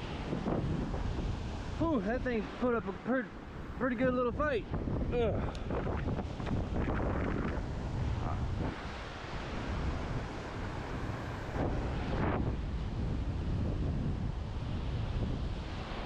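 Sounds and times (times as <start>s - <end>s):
strong wind buffeting microphone: 0.0s - 16.0s
surf washing on beach: 0.0s - 16.0s.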